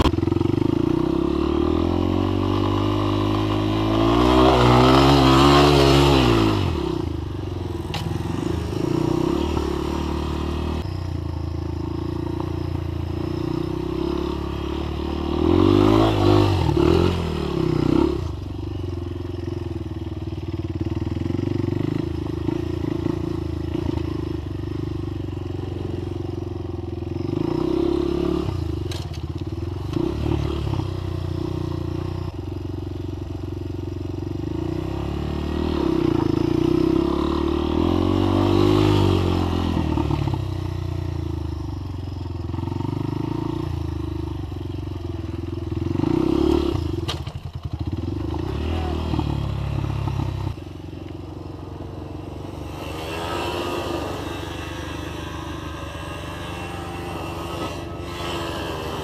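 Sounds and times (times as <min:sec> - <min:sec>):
dirt bike engine revving: 0:00.0 - 0:19.6, 0:20.6 - 0:32.3, 0:34.4 - 0:41.5, 0:45.2 - 0:59.0.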